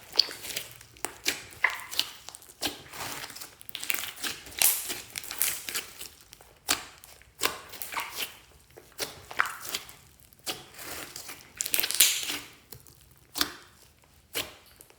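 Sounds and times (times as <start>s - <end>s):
slime squelching and popping: 0.0s - 14.9s.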